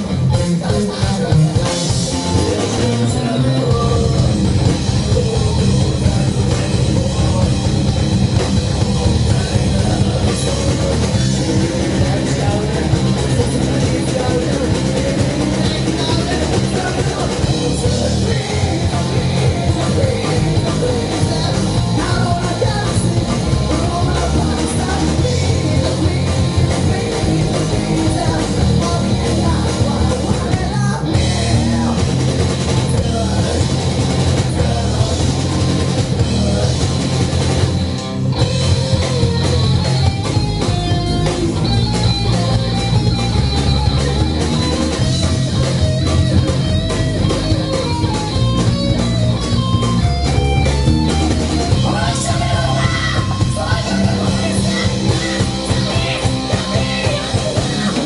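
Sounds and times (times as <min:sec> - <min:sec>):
man singing: 0:00.0 - 0:49.5, 0:50.5 - 0:58.0
live rock band playing: 0:00.0 - 0:58.0.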